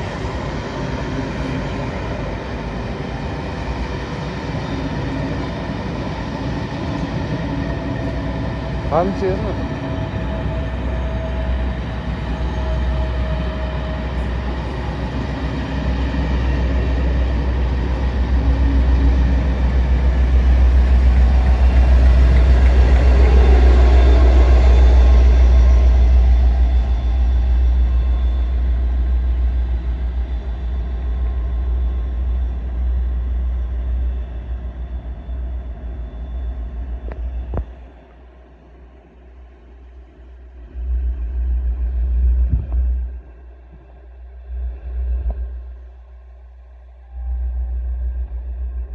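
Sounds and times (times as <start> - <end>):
train passing with low rumble: 0.0 - 48.9.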